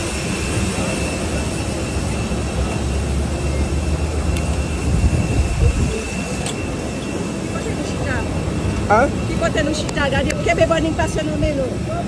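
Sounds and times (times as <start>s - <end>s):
jet engine whine and rumble: 0.0s - 12.0s.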